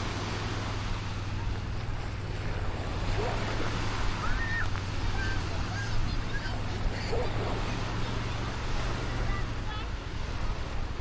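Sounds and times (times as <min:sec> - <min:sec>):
surf washing onto sandy beach: 0:00.0 - 0:11.0.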